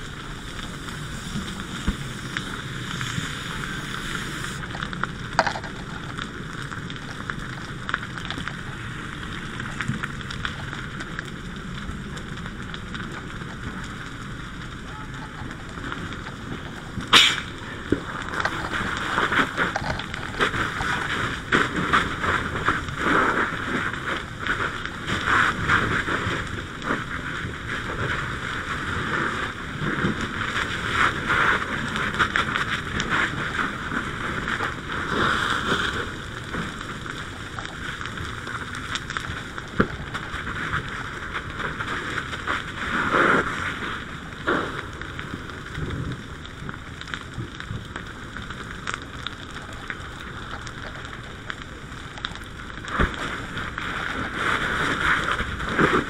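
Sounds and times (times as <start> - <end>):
fire crackling: 0.0 - 56.0
fire hose water spray: 0.0 - 56.0.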